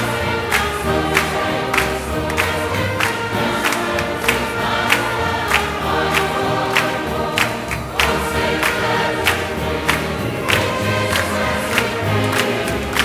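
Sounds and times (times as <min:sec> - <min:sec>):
choir and congregation singing hymn: 0:00.0 - 0:13.0.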